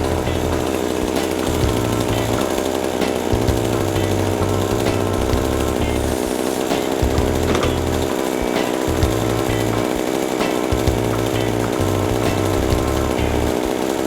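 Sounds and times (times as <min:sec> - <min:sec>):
chainsaw running at high speed: 0:00.0 - 0:14.0.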